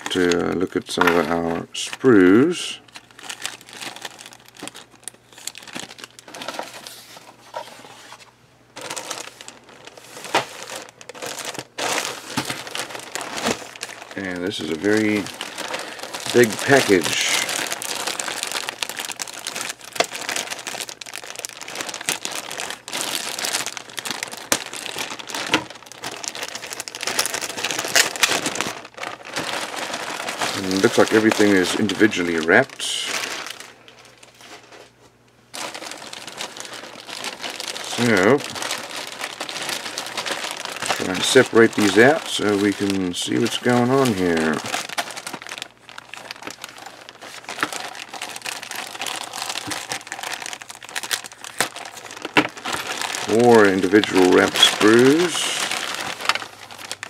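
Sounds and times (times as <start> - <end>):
plastic bag crinkling: 0.0 - 57.0.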